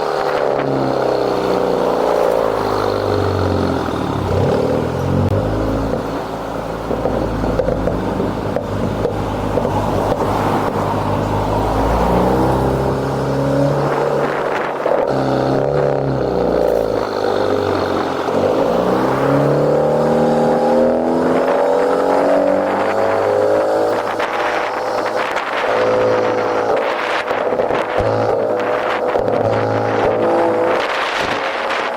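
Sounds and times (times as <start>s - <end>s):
turbocharged car engine revving: 0.0s - 31.9s.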